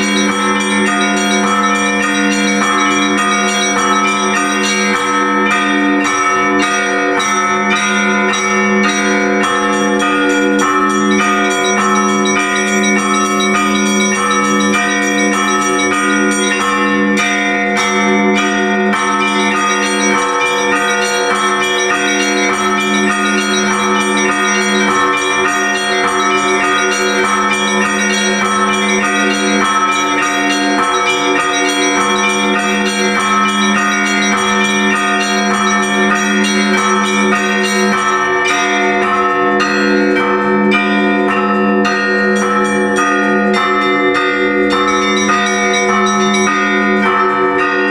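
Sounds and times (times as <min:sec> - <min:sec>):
low bell tone: 0:00.0 - 0:47.9
small church bells striking: 0:00.0 - 0:47.9.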